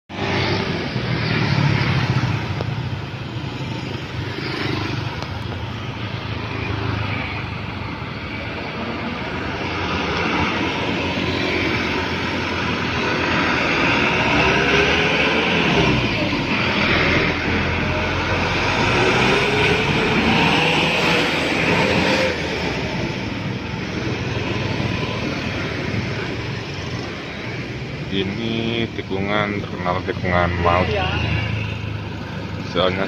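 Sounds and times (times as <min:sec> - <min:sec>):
motorcycle engine: 0:00.1 - 0:33.0
truck diesel engine passing: 0:00.1 - 0:33.0.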